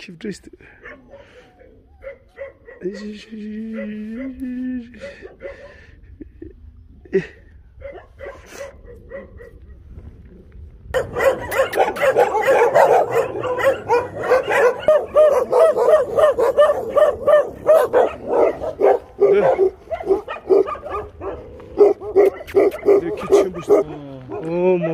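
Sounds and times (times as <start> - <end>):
dogs barking: 0.8 - 4.4, 5.0 - 6.0, 7.8 - 9.8, 10.9 - 24.9.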